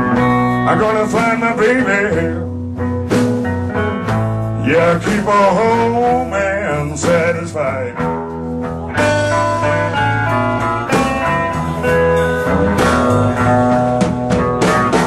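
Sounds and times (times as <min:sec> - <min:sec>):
bass: 0:00.0 - 0:15.0
drums: 0:00.0 - 0:15.0
electric guitar: 0:00.0 - 0:15.0.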